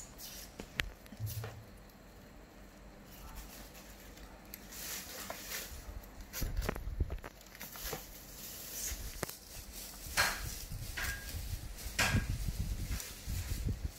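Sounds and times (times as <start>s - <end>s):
rustling vegetables and basket: 0.0s - 13.9s.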